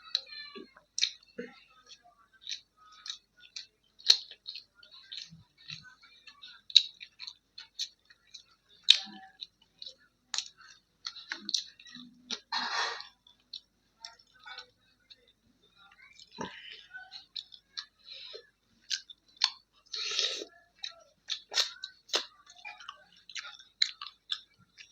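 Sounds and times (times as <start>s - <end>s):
wet mouth clicks while chewing: 1.0s - 1.3s, 1.9s - 15.3s, 16.2s - 24.9s.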